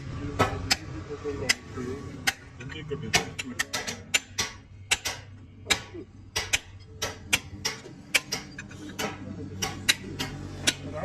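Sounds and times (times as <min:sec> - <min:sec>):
hammer striking steel: 0:00.4 - 0:11.0.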